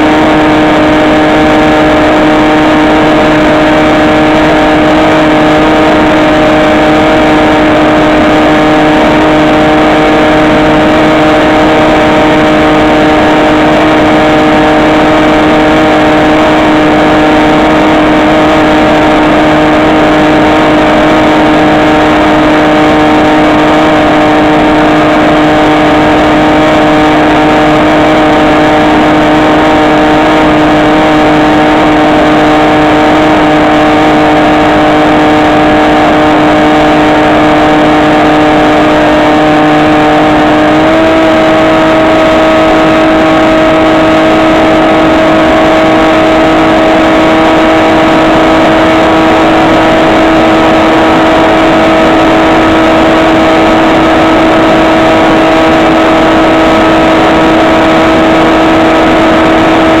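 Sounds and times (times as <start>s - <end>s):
model plane motor whine: 0.0s - 60.0s.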